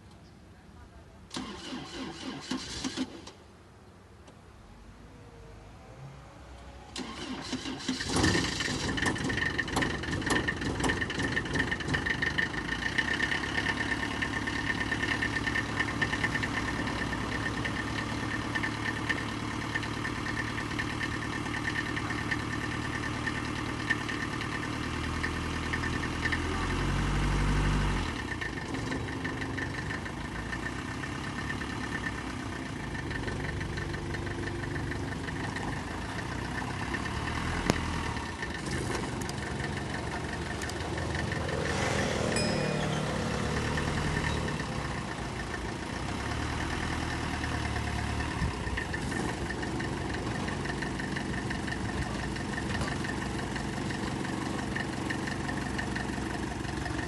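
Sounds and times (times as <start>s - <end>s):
van engine cranking and starting: 1.3s - 3.5s, 6.9s - 57.0s
van engine running: 6.8s - 57.0s.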